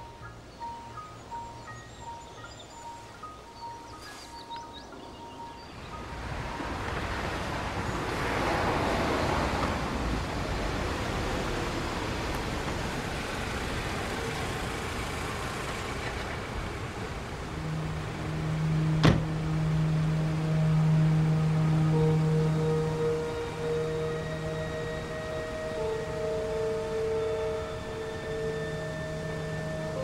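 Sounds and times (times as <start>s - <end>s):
low held music tone: 0.0s - 30.0s
car driving past: 5.7s - 30.0s.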